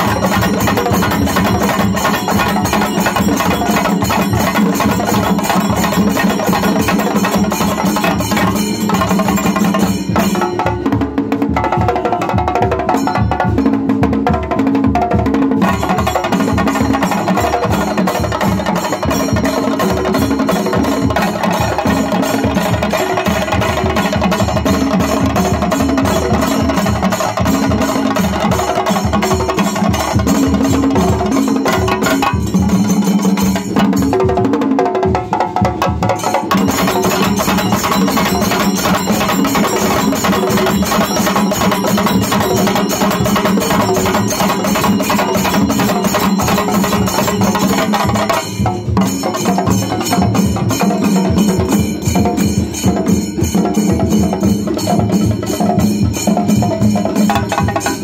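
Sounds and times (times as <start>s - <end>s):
drums beaten with sticks: 0.0s - 58.0s.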